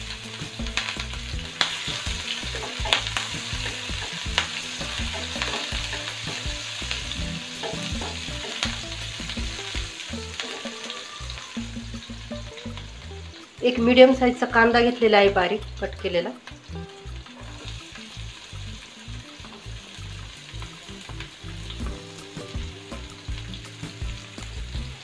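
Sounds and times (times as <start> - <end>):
chillies sizzling in hot oil: 0.0 - 25.0.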